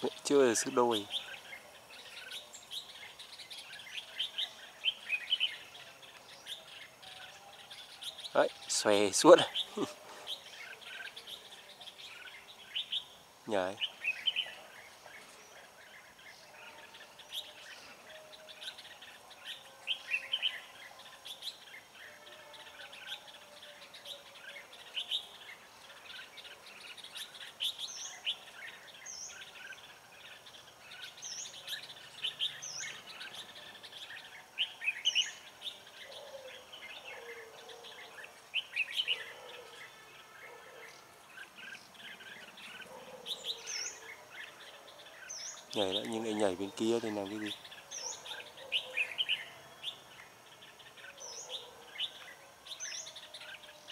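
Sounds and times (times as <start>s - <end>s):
bulbuls chirping: 0.0s - 53.9s.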